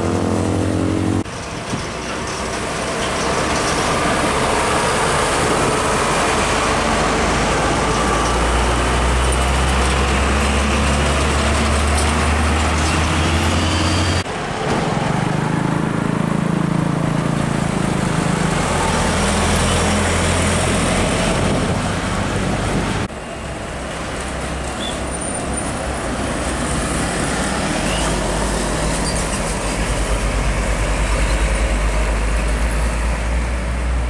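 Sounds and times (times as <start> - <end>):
diesel trucks driving past: 0.0 - 34.0
tyre and road noise: 0.0 - 34.0.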